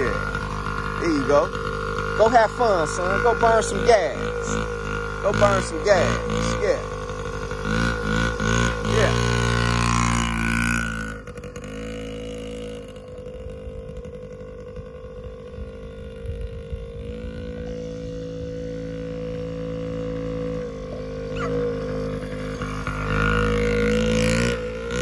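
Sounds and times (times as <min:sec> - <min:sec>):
small two-stroke motorbike engine: 0:00.0 - 0:25.0.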